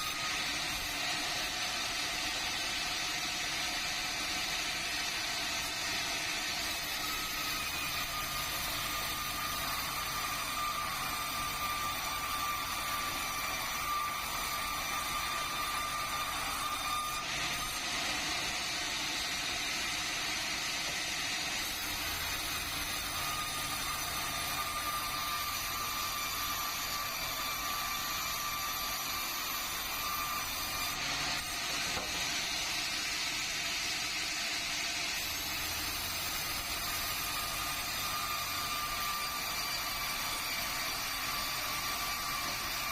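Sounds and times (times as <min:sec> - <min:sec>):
sawmill saw cutting timber: 0:00.0 - 0:42.9.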